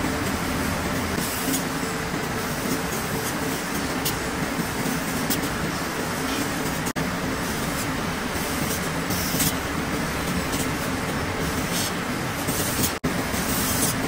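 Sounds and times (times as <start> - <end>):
mill machinery din: 0.0 - 14.0.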